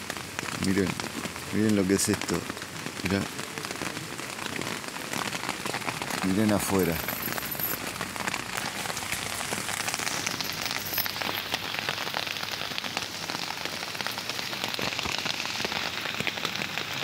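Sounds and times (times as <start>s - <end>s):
rain into standing water: 0.0s - 17.0s
rain on a tent: 0.0s - 17.0s.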